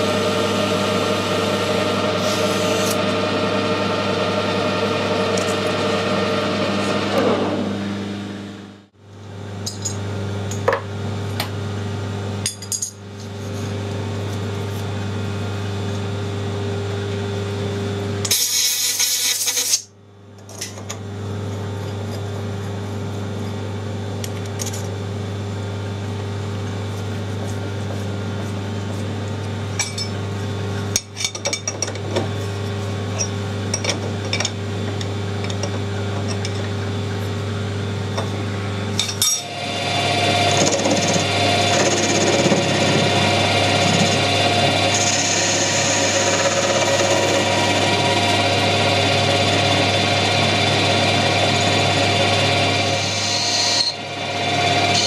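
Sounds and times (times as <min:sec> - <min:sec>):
machine hum: 0:00.0 - 0:18.3, 0:20.0 - 0:55.0.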